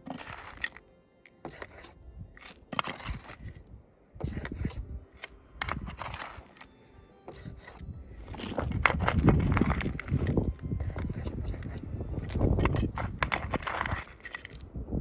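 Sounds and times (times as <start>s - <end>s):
hand tool digging stony ground: 0.0s - 14.8s.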